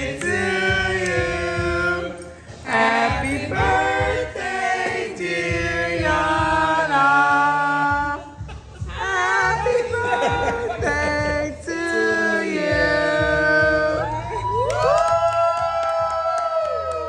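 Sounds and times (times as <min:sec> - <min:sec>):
group singing a birthday song: 0:00.0 - 0:14.6.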